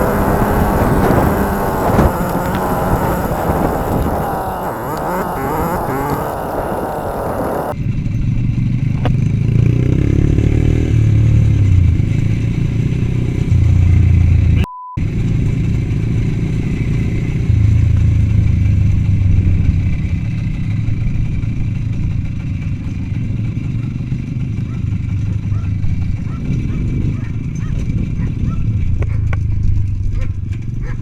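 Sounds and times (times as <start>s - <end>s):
small motorcycle engine droning: 0.0s - 31.0s.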